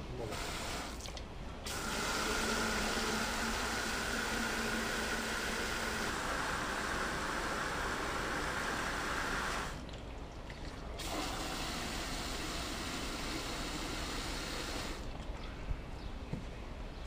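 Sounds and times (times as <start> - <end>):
water running into a bucket: 0.3 - 15.1.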